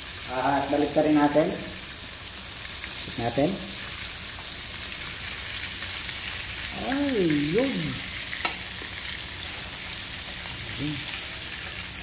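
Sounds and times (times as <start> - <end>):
fish deep-frying sizzle: 0.0 - 12.0.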